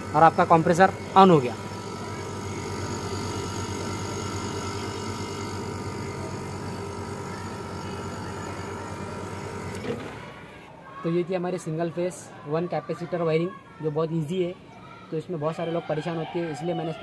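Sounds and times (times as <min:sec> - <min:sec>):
air conditioner unit humming: 0:00.0 - 0:17.0
faint constant whine: 0:00.0 - 0:17.0.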